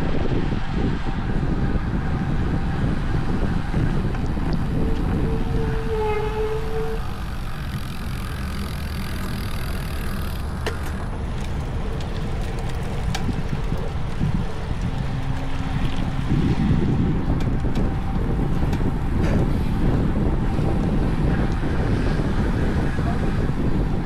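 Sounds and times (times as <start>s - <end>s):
motor traffic passing: 0.0s - 24.0s
wind rushing over microphone: 0.0s - 24.0s.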